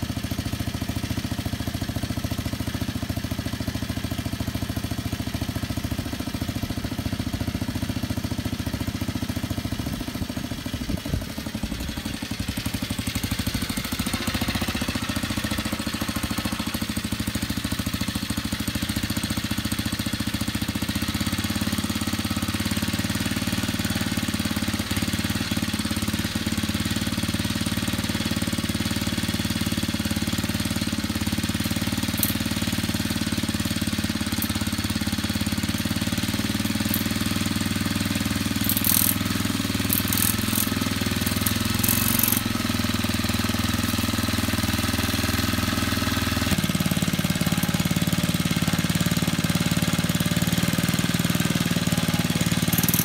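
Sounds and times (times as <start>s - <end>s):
small petrol engine running: 0.0s - 53.0s.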